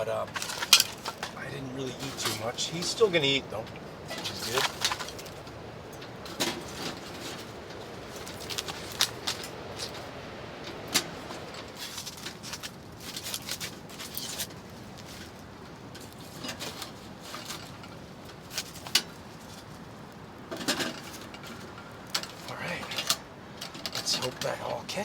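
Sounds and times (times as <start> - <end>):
wind blowing on tent: 0.0 - 25.0.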